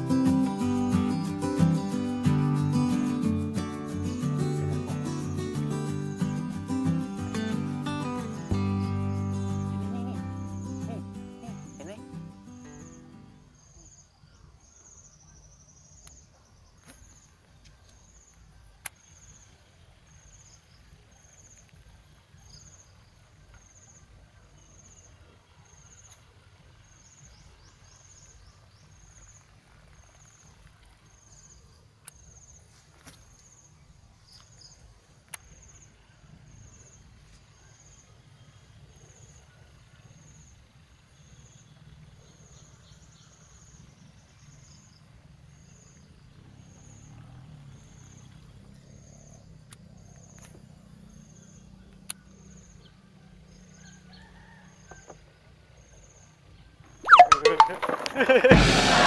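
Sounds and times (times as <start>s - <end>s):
insect chirping: 0.0s - 58.5s.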